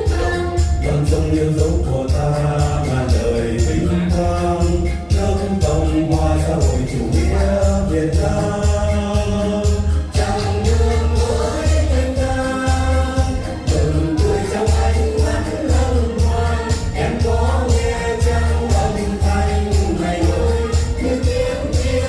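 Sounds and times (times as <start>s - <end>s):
backing track with beat and bass: 0.0s - 22.0s
vocal ensemble singing: 0.0s - 22.0s.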